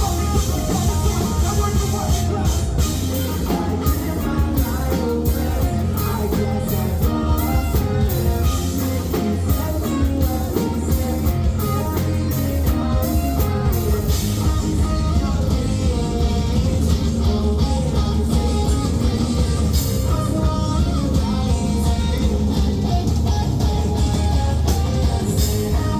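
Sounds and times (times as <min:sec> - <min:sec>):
bass: 0:00.0 - 0:25.9
drum kit: 0:00.0 - 0:25.9
electric guitar: 0:00.0 - 0:25.9.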